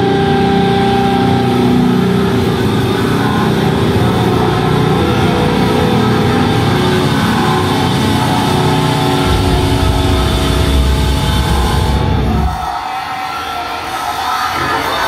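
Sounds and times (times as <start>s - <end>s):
hardcore band playing live: 0.0s - 12.6s.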